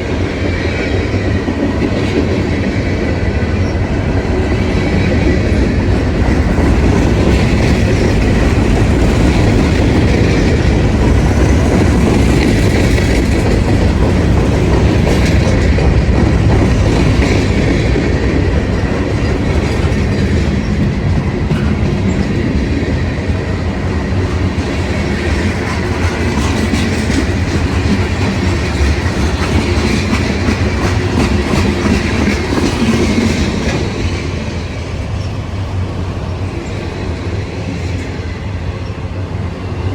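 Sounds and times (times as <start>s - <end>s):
train passing: 0.0s - 39.9s
wheel clatter at rail joints: 0.0s - 39.9s.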